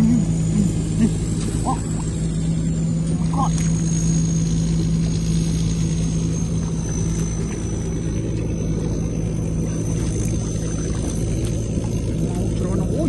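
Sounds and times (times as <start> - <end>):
small engine humming with whine: 0.0 - 13.0.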